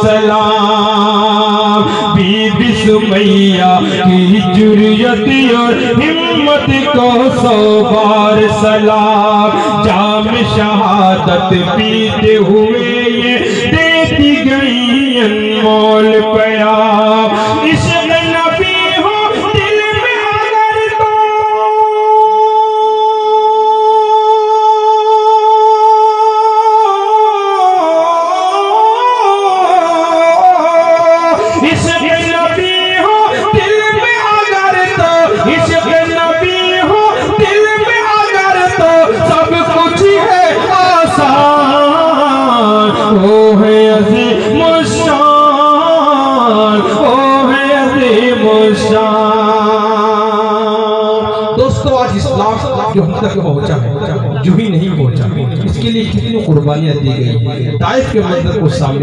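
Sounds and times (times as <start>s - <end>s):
man singing over loudspeaker: 0.0s - 59.0s.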